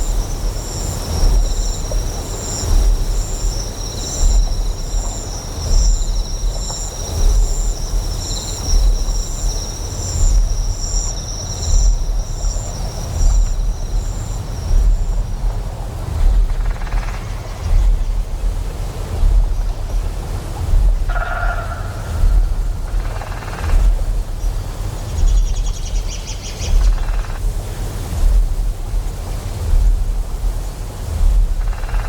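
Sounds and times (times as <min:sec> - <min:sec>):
deep pulsing generator hum: 0:00.0 - 0:32.0
high insect trill: 0:00.0 - 0:32.0
insects chirping: 0:00.0 - 0:32.0
rushing wash like water: 0:00.0 - 0:32.0.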